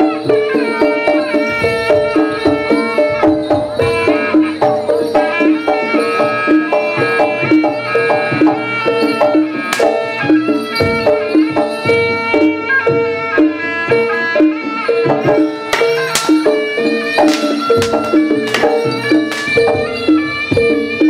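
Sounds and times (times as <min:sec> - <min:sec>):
hand drums: 0:00.0 - 0:21.0
tuned percussion melody: 0:00.0 - 0:21.0.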